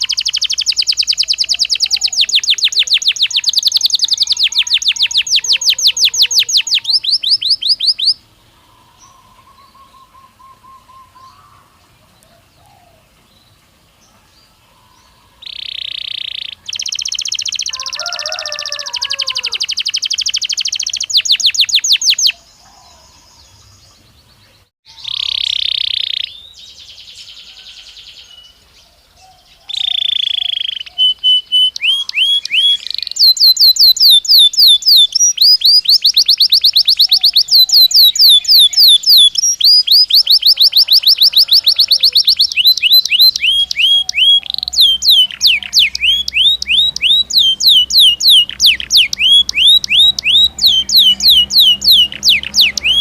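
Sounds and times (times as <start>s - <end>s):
buzzy bird phrases: 0.0s - 28.3s, 29.0s - 53.0s
canary singing trills: 0.0s - 53.0s.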